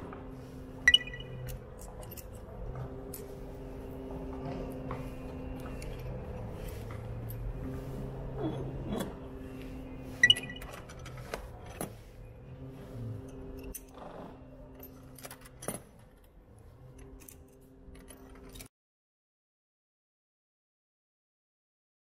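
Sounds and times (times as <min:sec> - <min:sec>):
low steady hum: 0:00.0 - 0:18.7.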